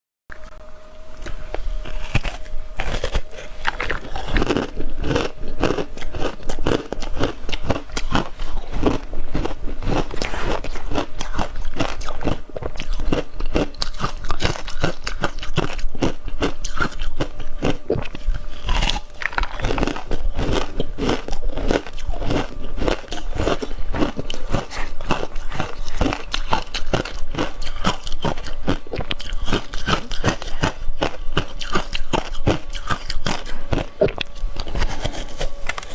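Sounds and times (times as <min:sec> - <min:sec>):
ice crunching between teeth: 0:01.2 - 0:35.9.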